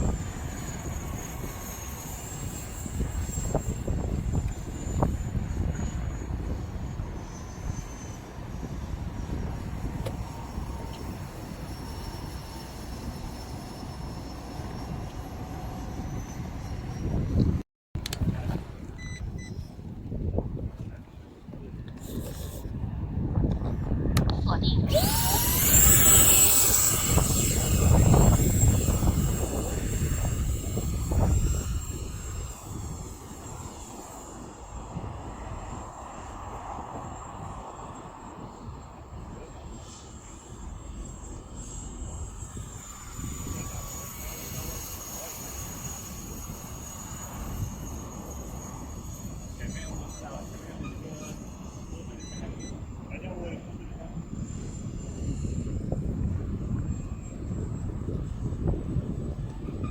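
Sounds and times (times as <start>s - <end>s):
model airplane motor whine: 0.0s - 20.3s, 21.6s - 24.1s, 24.9s - 59.9s
wind buffeting microphone: 0.0s - 59.9s.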